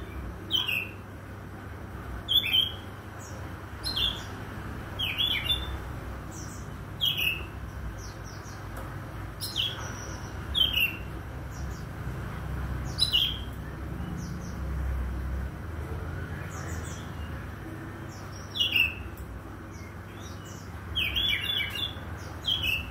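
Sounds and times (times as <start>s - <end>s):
bird chirping: 0.0s - 1.0s, 2.2s - 22.9s.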